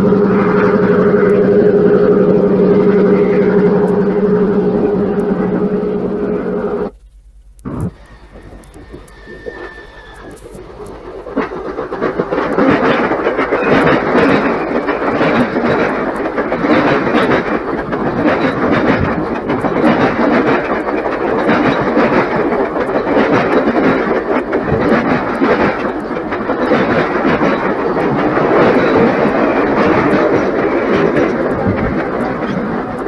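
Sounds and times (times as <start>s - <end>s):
train coaches rumbling past: 0.0s - 33.0s
wheels clicking over rail joints: 0.0s - 33.0s.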